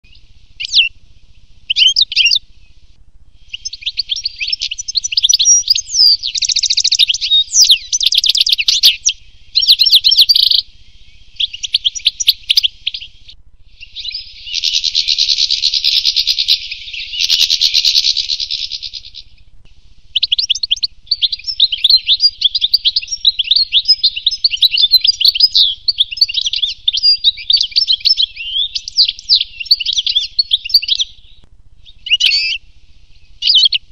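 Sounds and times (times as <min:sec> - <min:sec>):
bird twittering song: 0:00.0 - 0:33.9.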